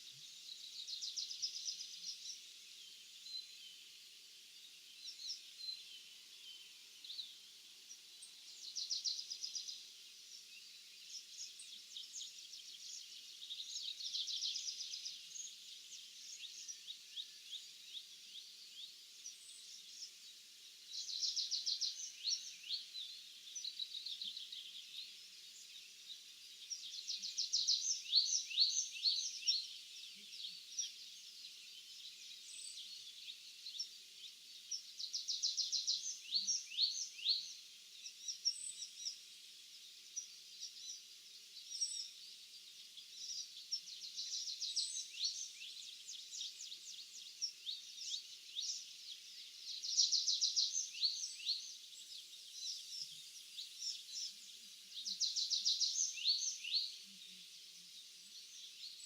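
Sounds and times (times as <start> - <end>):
faint steady hiss: 0.0 - 59.0
small songbirds singing: 0.0 - 59.0.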